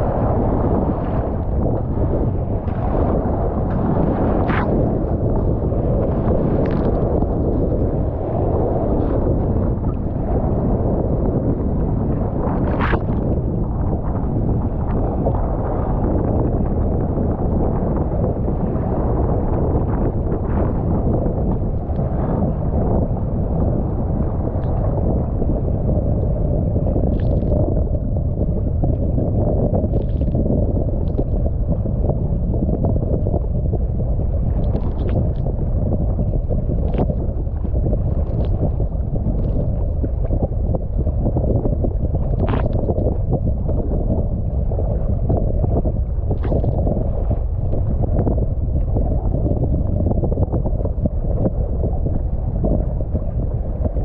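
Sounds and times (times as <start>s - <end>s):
water splashing against hull: 0.0s - 54.0s
wind buffeting microphone: 0.0s - 54.0s.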